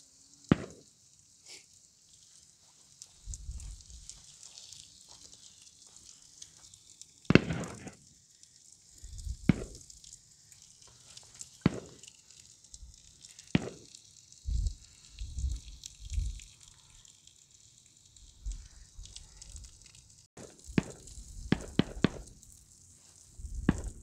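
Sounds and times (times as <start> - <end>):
patties sizzling on grill: 0.0 - 24.0
wood fire popping: 0.2 - 24.0.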